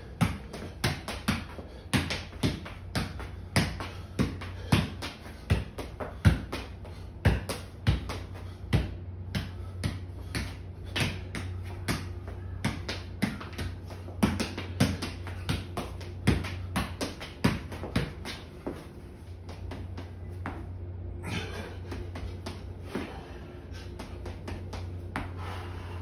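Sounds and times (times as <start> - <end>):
steady low hum: 0.0 - 26.0
soccer ball kicks: 0.1 - 23.1.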